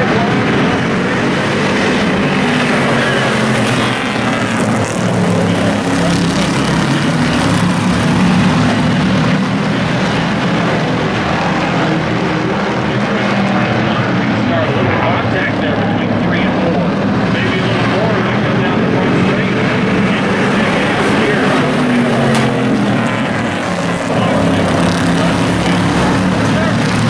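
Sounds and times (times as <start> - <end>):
race truck engines: 0.0 - 27.0.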